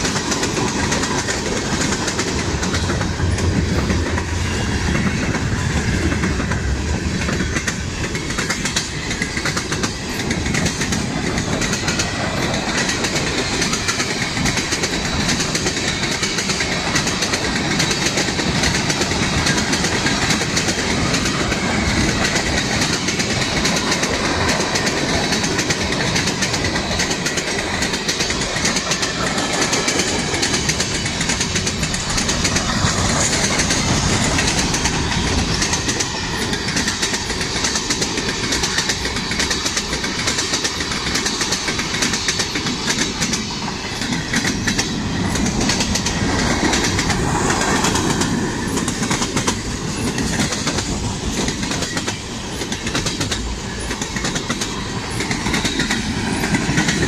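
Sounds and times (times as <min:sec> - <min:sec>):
steel wheels rumbling on rail: 0:00.0 - 0:57.0
wheels clicking over rail joints: 0:00.0 - 0:57.0.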